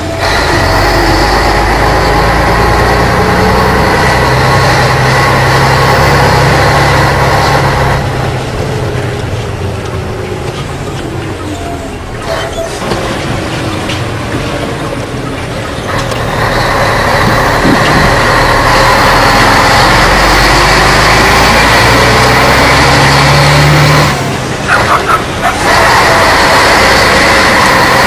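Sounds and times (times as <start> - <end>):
truck diesel engine revving: 0.0 - 28.0.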